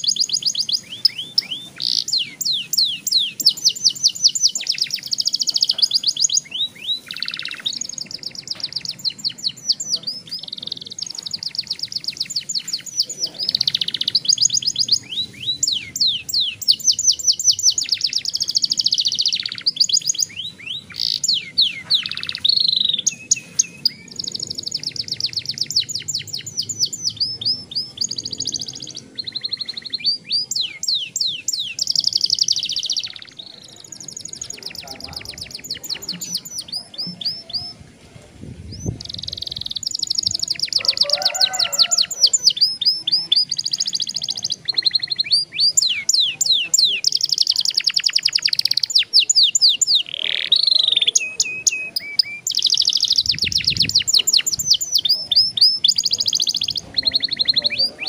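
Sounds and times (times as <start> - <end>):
canary singing trills: 0.0 - 37.9, 38.6 - 58.0.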